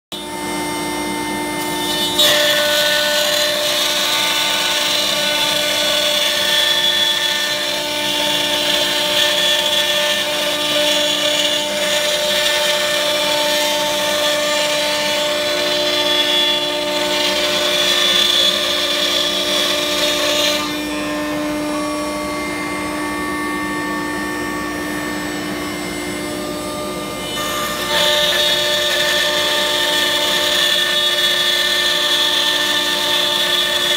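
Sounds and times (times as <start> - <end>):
router spindle whine: 0.1 - 33.9
wood cutting noise: 0.1 - 33.9.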